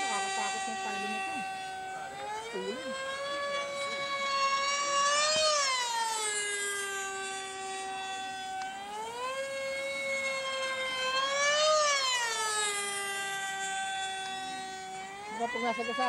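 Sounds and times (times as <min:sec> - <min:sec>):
model airplane motor whine: 0:00.0 - 0:16.0.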